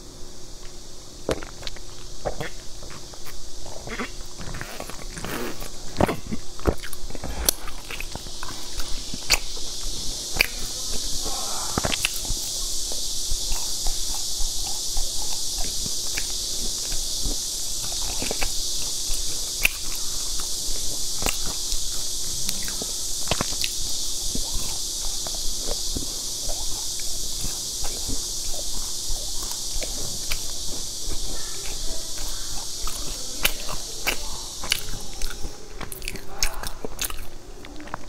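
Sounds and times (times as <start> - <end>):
steady high hiss: 0.0 - 38.0
crisp chewing crunches: 0.6 - 38.0
mouth clicks: 0.6 - 38.0.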